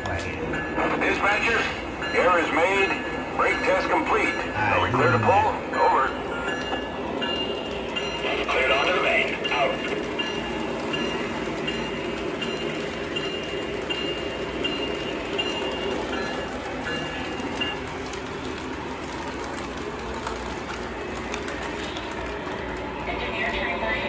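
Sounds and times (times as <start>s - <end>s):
model train wheels rumbling: 0.0s - 24.0s.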